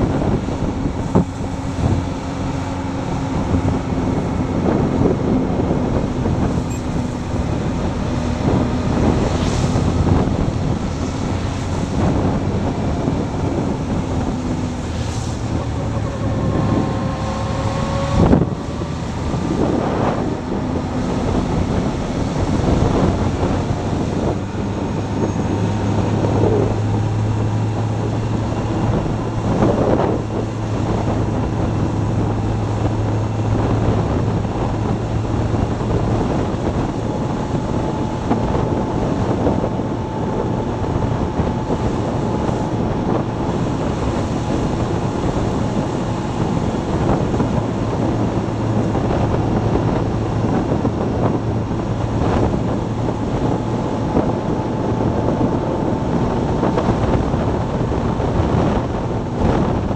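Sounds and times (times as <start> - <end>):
motorcycle engine hum: 0.0 - 59.9
wind rushing over microphone: 0.0 - 59.9.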